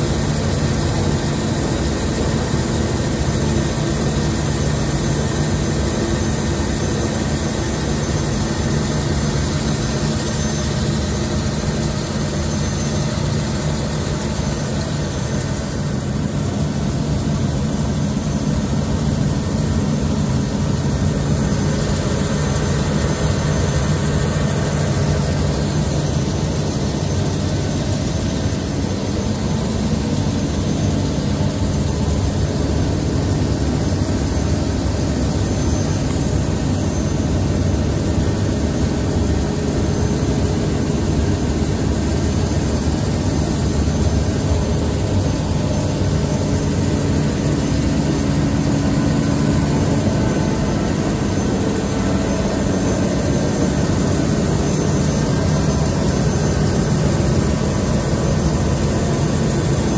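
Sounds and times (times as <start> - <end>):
milling machine running: 0.0 - 59.9.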